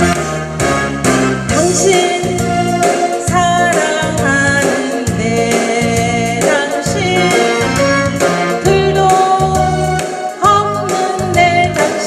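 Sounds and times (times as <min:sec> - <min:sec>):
backing track with steady beat: 0:00.0 - 0:12.0
woman singing into a microphone: 0:01.5 - 0:07.8, 0:08.5 - 0:12.0.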